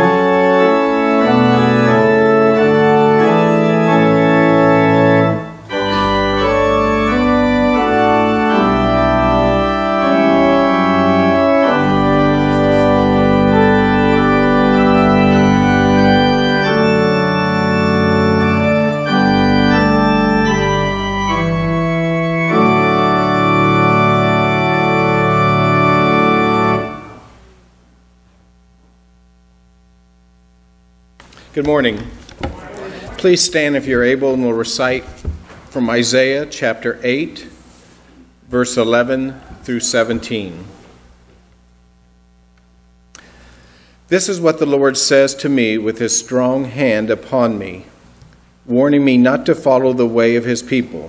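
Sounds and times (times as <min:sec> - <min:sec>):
church organ chords: 0:00.0 - 0:51.0.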